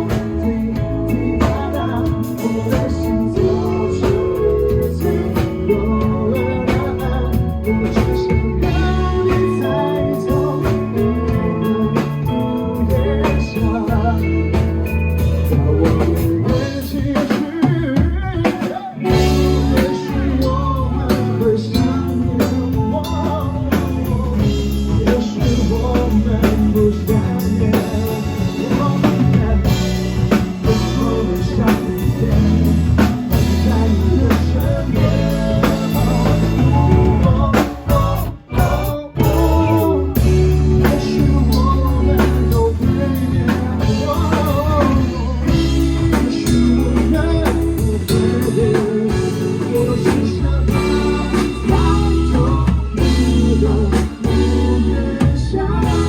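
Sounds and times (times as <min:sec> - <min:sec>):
drum kit: 0:00.0 - 0:56.0
guitar playing: 0:00.0 - 0:56.0
person singing: 0:00.0 - 0:56.0.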